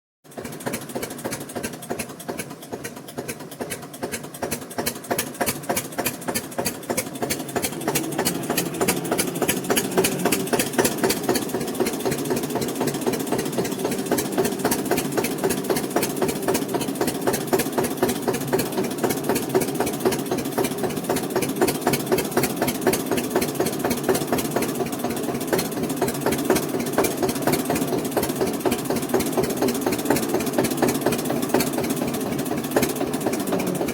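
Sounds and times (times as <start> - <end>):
tractor diesel engine running: 0.3 - 33.9.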